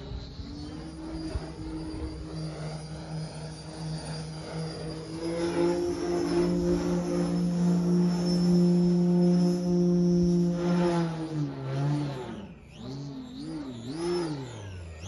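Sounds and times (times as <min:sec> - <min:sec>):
model plane propeller drone: 0:00.0 - 0:15.0.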